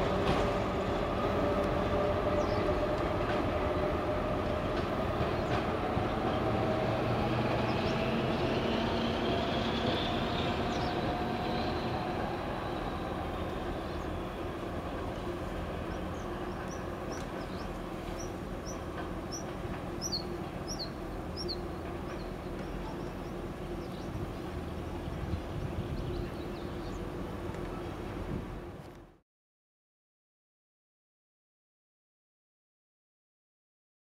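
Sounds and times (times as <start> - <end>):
diesel train engine whining: 0.0 - 29.2.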